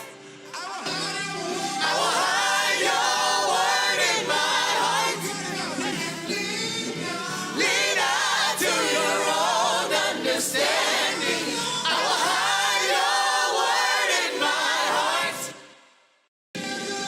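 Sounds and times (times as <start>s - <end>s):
gospel choir singing: 0.0s - 15.8s.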